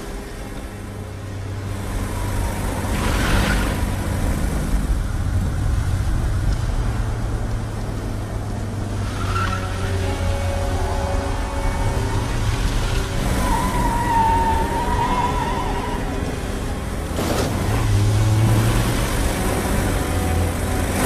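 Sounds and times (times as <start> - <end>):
car engine humming: 0.0 - 21.0
wind and tyre road noise: 0.0 - 21.0.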